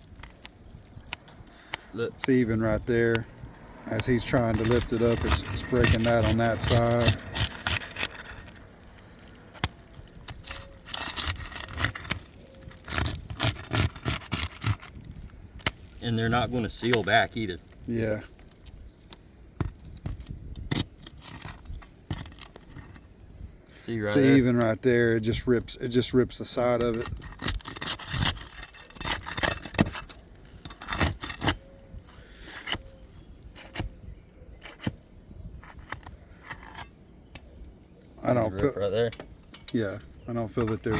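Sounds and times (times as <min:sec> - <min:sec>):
shingle snapping: 0:00.0 - 0:23.4, 0:26.6 - 0:37.8
roof shingles scraping and crackling: 0:00.0 - 0:37.5, 0:38.3 - 0:40.9.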